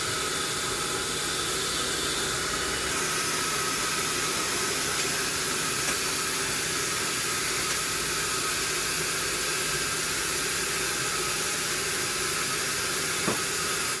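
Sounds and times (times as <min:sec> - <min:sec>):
sawmill machinery hiss: 0:00.0 - 0:14.0.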